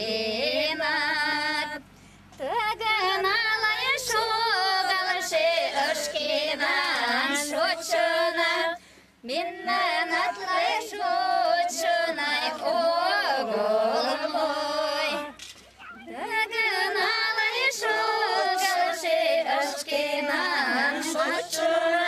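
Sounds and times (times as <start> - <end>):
women singing in high voices: 0.0 - 22.0.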